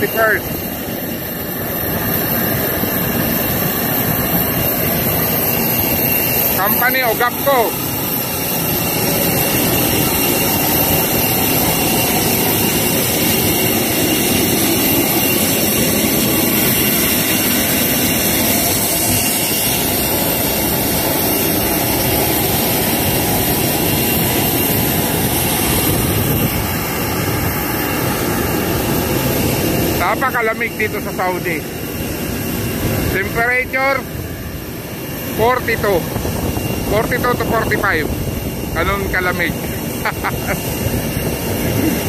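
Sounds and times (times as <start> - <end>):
jet turbine running with high whine: 0.0 - 42.0.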